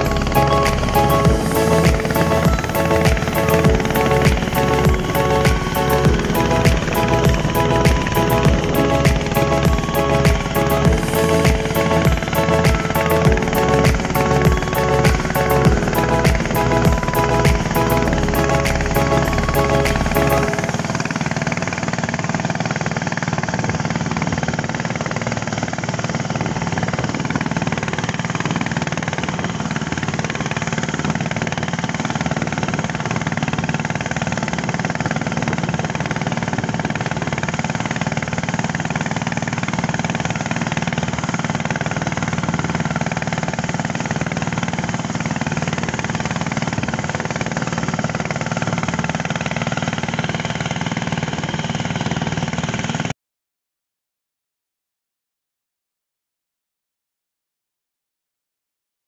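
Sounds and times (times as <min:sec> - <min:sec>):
boat engine running: 0:00.0 - 0:53.1
wind: 0:00.0 - 0:53.1.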